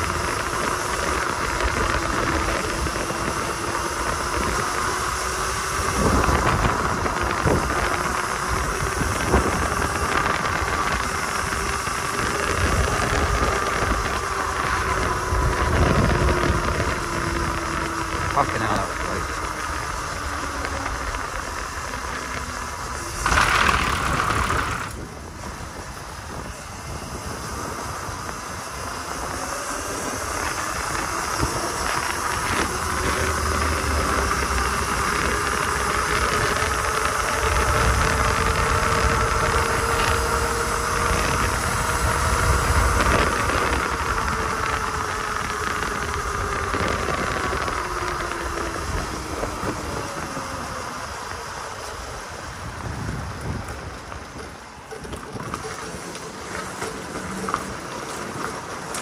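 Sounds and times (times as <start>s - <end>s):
electric dirt bike motor whining: 0.0s - 59.0s
loud rush of noise: 0.0s - 59.0s
low wind rumble: 0.0s - 59.0s.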